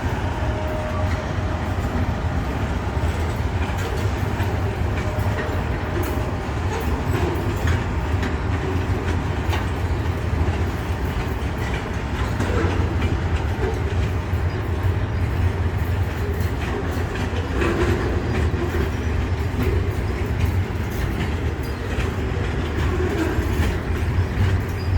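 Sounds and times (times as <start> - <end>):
train low rumble: 0.0 - 24.9
wheels clicking over rail joints: 0.0 - 24.9.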